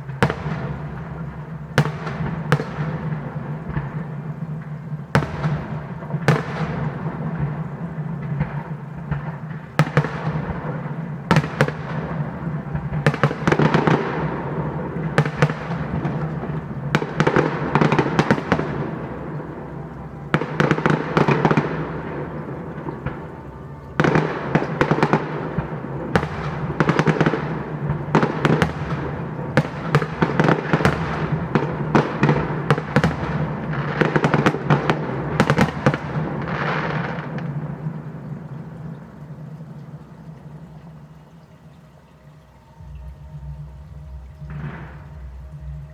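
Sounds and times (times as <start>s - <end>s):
fireworks bangs: 0.0s - 41.5s
fireworks crackling: 0.0s - 45.9s.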